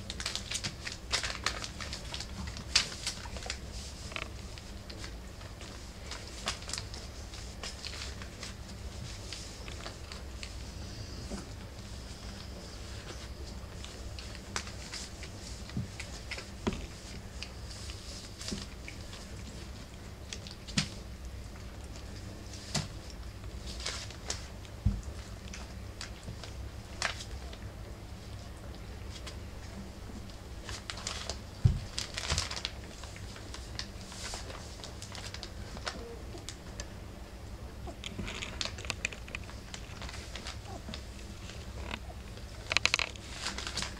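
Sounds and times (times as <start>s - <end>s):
newspaper crinkling: 0.0s - 10.7s, 11.8s - 21.0s, 21.9s - 27.7s, 30.2s - 36.9s, 38.0s - 43.9s
puppies scuffling on bedding: 0.0s - 37.0s
steady low hum: 0.0s - 43.9s.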